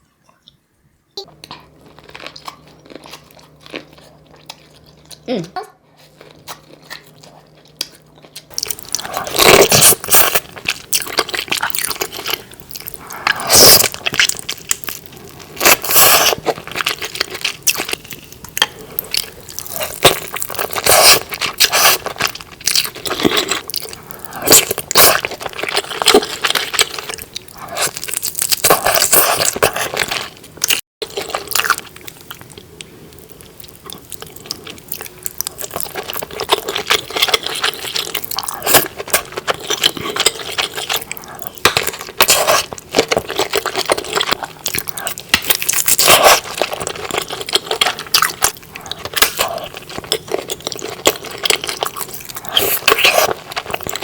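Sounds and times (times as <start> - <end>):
close-miked wet eating and chewing: 0.0 - 54.0.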